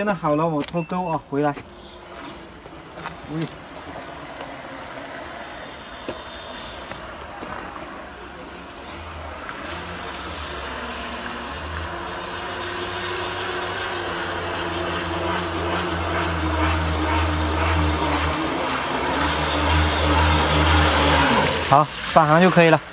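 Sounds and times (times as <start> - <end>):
small boat motor humming: 0.0 - 22.9.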